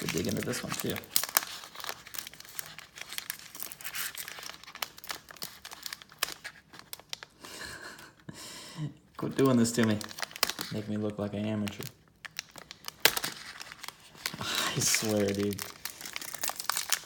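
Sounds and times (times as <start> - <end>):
wrapper tearing and crinkling: 0.0 - 7.4, 9.2 - 17.0.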